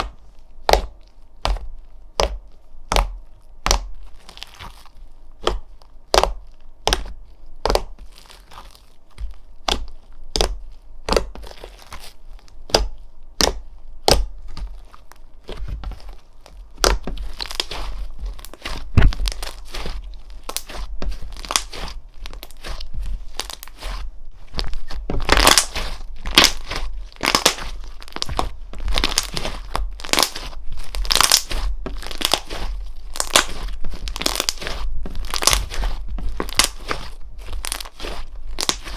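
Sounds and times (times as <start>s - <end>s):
slime popping and crackling: 0.0s - 38.9s.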